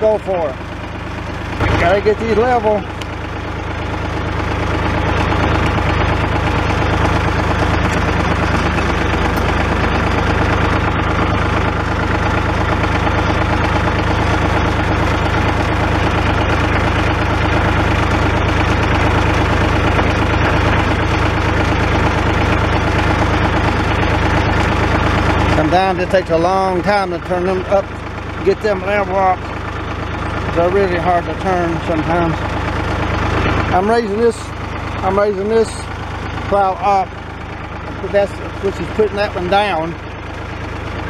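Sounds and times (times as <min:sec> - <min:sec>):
tractor engine idling: 0:00.0 - 0:41.0.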